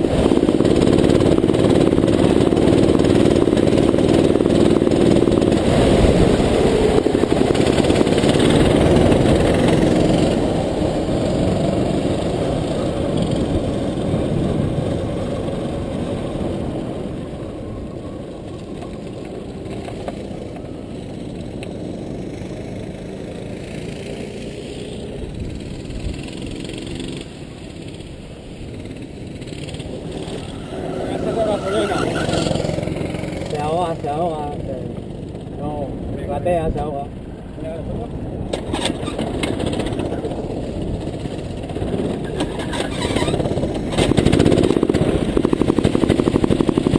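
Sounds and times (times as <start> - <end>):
go-kart engine running: 0.0 - 46.9.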